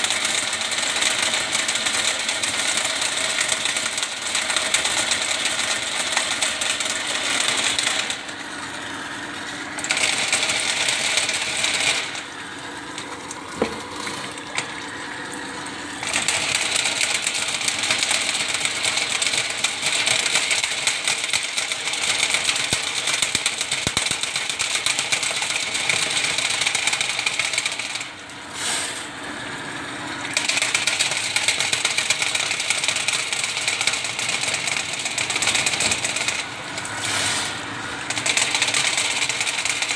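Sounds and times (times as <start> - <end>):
drain machine metallic rattling whir: 0.0 - 39.9.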